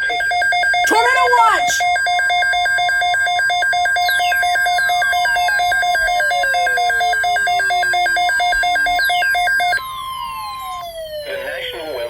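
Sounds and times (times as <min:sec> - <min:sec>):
rapid pulsing alert beep: 0:00.0 - 0:11.6.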